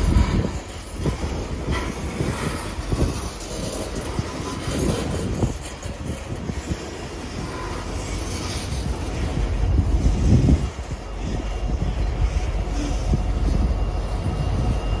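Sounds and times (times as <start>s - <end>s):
train cars clanking: 0.0s - 15.0s
train wheels rumbling on rails: 0.0s - 15.0s.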